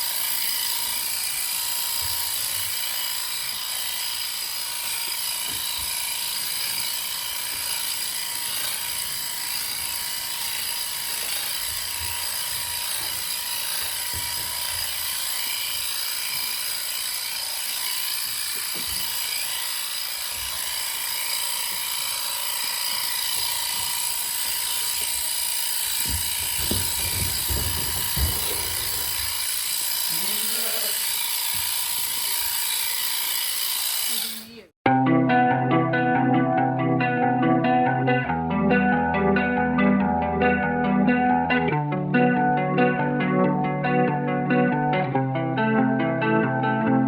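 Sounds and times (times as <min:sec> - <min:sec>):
electric shears whining: 0:00.0 - 0:47.0.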